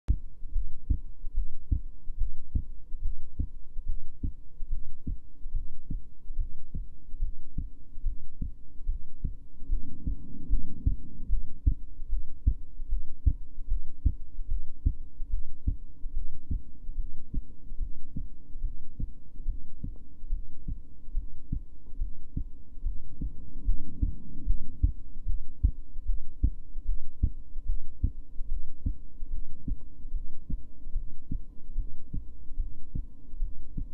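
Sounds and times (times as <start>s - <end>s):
heartbeat thuds: 0.1s - 33.9s.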